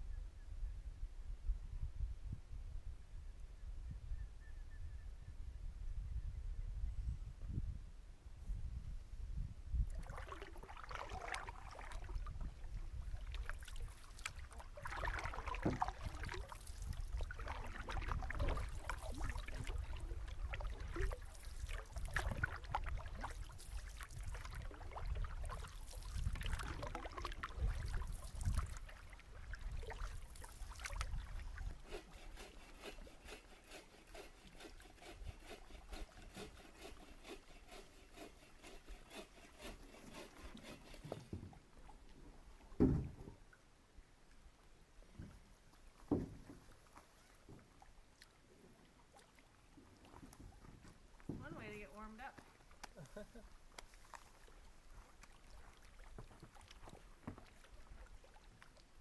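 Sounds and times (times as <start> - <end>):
paddle swishing through water: 9.7 - 59.0.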